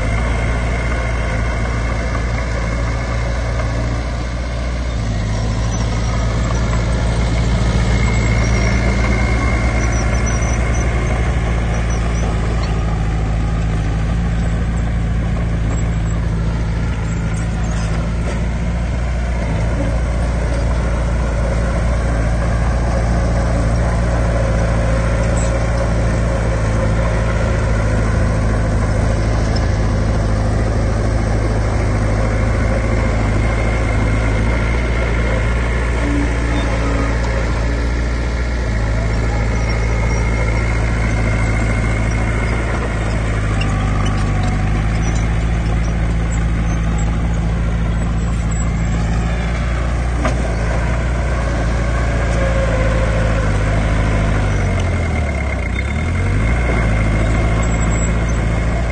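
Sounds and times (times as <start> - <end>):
heavy diesel engine humming: 0.0 - 58.9.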